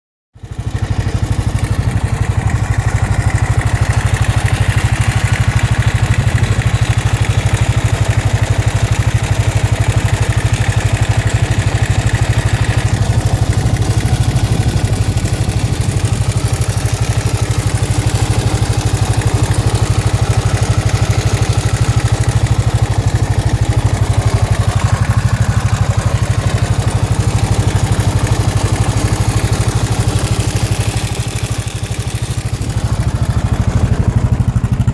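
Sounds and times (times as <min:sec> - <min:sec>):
motorcycle engine idling: 0:00.4 - 0:34.9.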